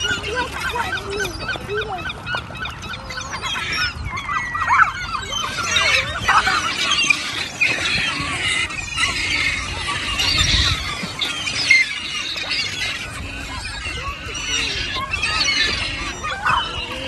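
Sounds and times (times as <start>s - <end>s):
waterbirds calling: 0.0s - 17.0s.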